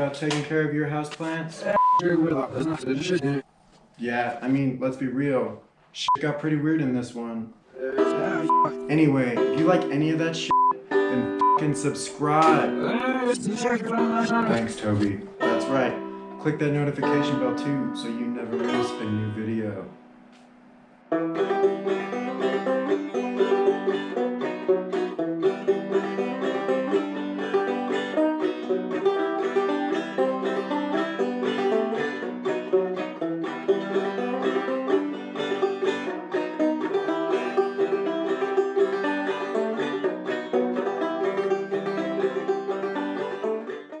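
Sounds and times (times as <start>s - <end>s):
fast plucked banjo tune: 1.8s - 3.4s, 7.8s - 20.0s, 21.1s - 44.0s.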